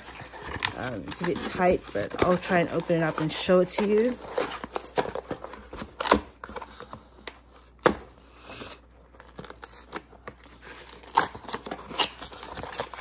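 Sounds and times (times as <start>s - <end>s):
packaging tearing and crinkling: 0.0s - 6.8s, 9.1s - 13.0s.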